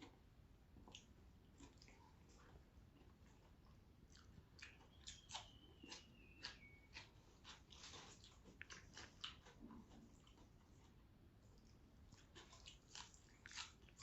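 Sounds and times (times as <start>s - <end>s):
chewing and biting food: 0.8s - 14.0s.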